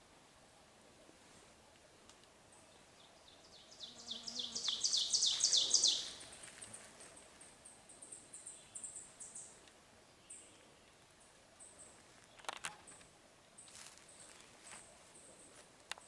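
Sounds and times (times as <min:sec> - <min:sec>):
songbird singing: 0:01.7 - 0:16.0.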